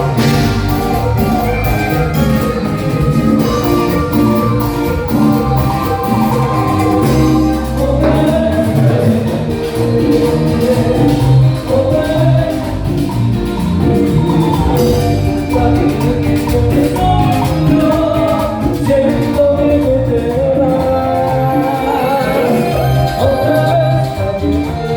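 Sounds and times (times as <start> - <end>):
live cumbia band playing: 0.0 - 24.9.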